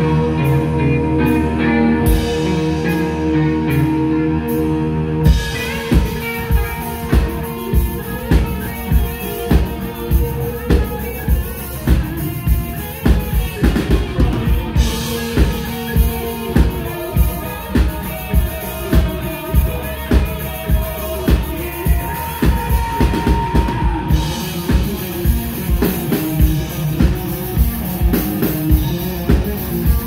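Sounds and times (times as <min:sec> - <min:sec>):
electric guitar sustained notes: 0:00.0 - 0:30.0
rock band with driving drum beat: 0:00.0 - 0:30.0.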